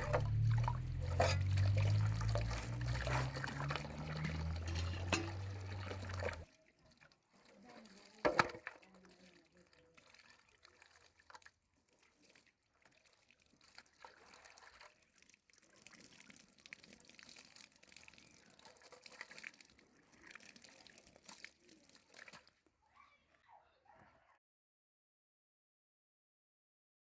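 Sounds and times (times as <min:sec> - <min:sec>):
small water splashes: 0:00.0 - 0:22.7
faint trickling water: 0:00.0 - 0:24.1.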